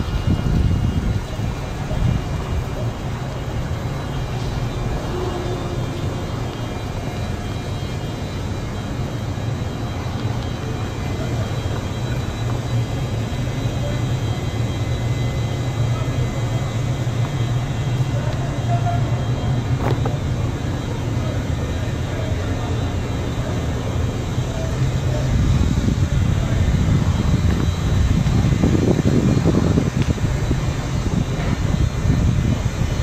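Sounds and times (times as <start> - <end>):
electric train rumble: 0.0 - 33.0.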